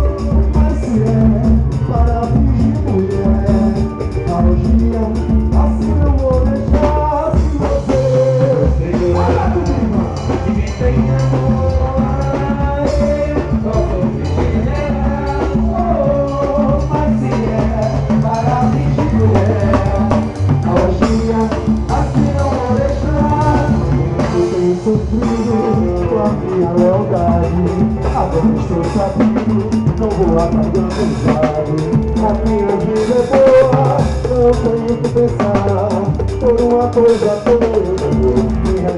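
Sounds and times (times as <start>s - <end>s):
drums and percussion beat: 0.0s - 38.9s
person singing melody: 0.0s - 38.9s.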